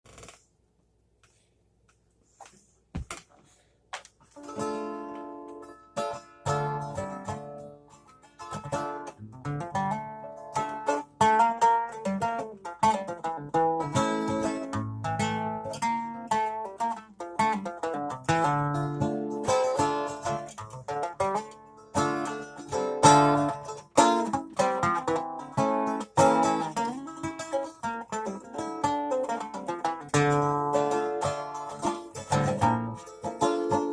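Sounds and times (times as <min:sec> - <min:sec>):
plucked string instrument: 0:04.3 - 0:33.9.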